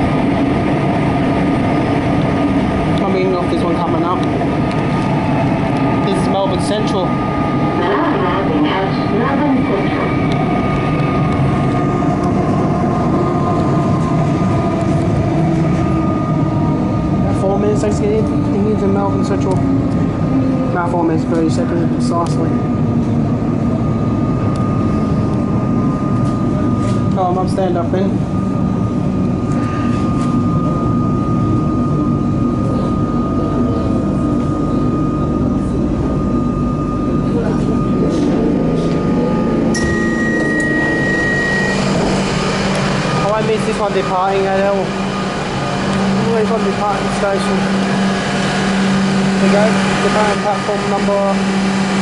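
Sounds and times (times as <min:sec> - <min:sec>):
thin steady whine: 0:00.0 - 0:52.0
train running rumble: 0:00.0 - 0:52.0.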